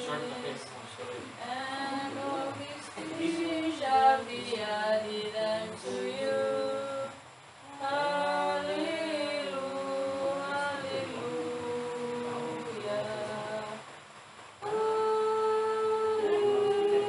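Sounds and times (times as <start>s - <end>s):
group singing a hymn: 0.0s - 14.0s, 14.6s - 17.0s.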